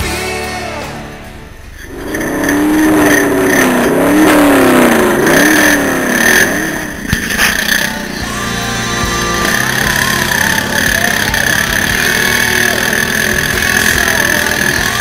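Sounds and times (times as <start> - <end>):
small engine revving: 1.8 - 15.0.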